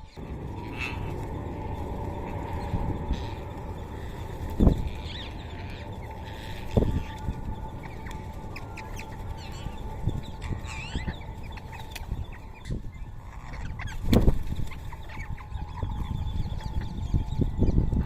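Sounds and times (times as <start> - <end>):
parakeets calling: 0.0 - 18.0.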